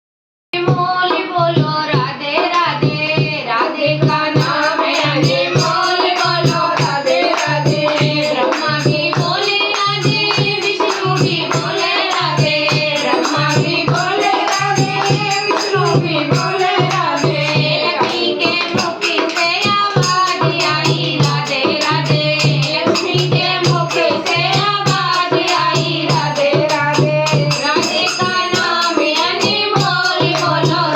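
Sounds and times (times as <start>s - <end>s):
percussion beat with jingling: 1.7s - 30.9s
voices singing: 1.8s - 30.9s.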